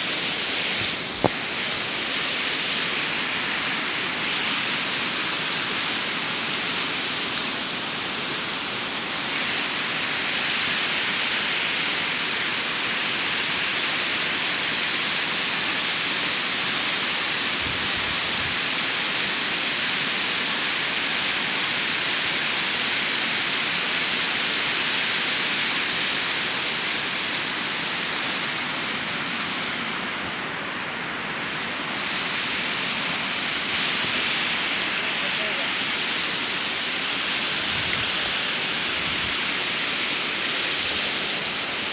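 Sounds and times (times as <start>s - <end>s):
water flowing over rocks: 0.0s - 41.9s.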